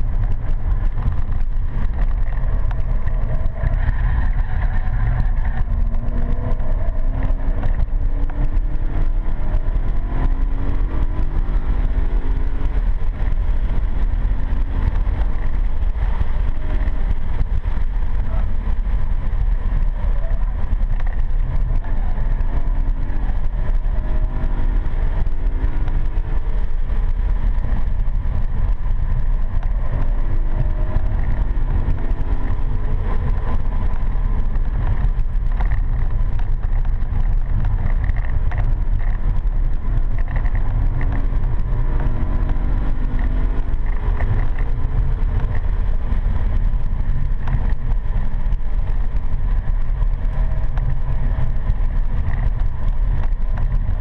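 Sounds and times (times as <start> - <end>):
car engine accelerating: 0.0 - 54.0
road noise inside car: 0.0 - 54.0.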